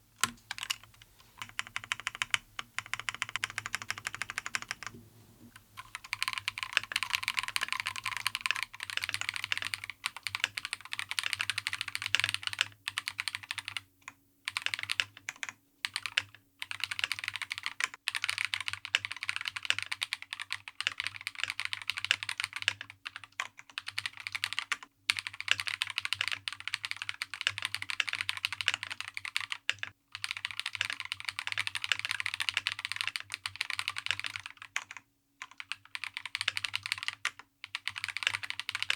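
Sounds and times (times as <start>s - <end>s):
mechanical keyboard typing: 0.2s - 5.0s, 5.6s - 13.8s, 14.5s - 38.9s.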